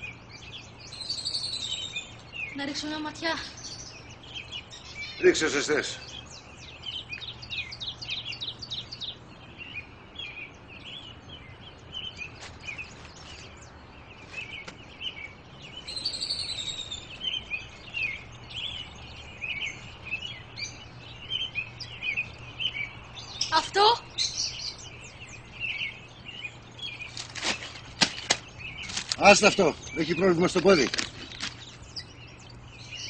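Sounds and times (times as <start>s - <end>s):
caged birds chirping: 0.0s - 33.0s
low steady hum: 0.0s - 33.0s.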